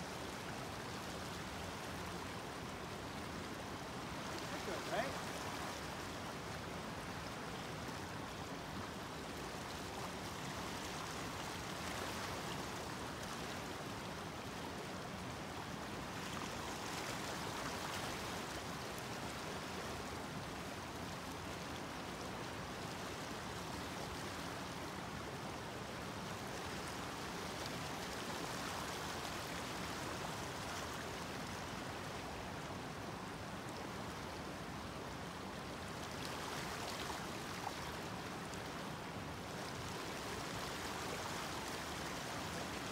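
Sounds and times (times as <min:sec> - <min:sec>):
shallow stream rushing: 0:00.0 - 0:42.9.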